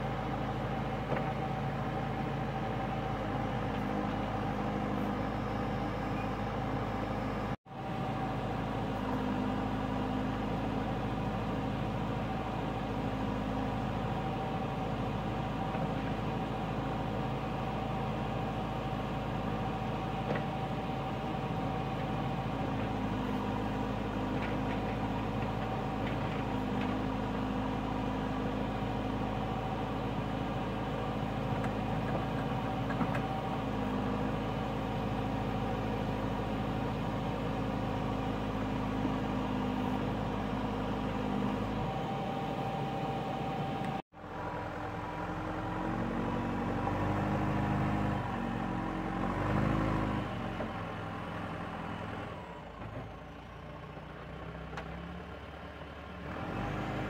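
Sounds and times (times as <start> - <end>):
diesel digger engine running: 0.0 - 57.0.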